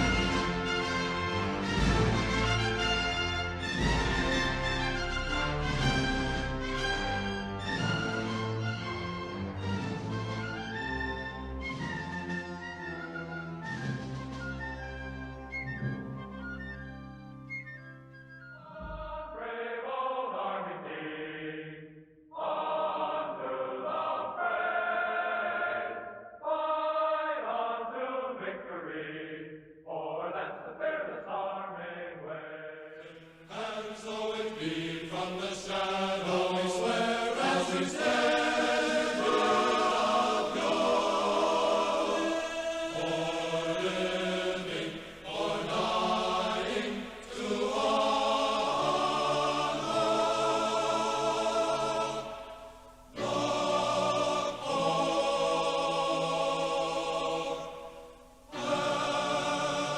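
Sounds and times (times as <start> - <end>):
choir singing: 0.0 - 15.3, 18.6 - 59.9.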